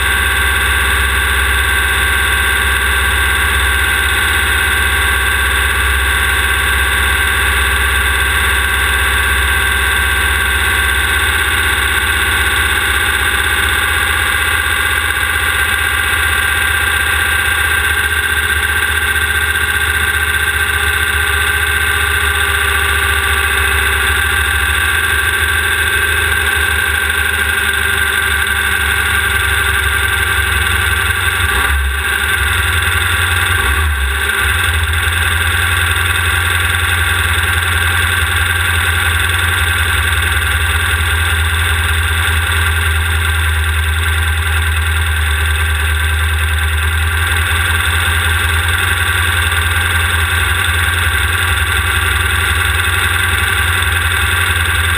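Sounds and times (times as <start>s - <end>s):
race car engine under load: 0.0s - 54.9s.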